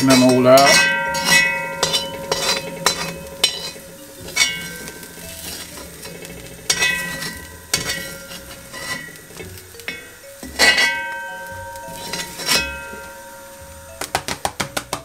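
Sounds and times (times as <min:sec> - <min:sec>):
metal spoon scraping a pot: 0:00.0 - 0:11.0, 0:11.8 - 0:13.1
oil sizzling faintly: 0:00.0 - 0:15.0
pot ringing from strikes: 0:00.0 - 0:15.0.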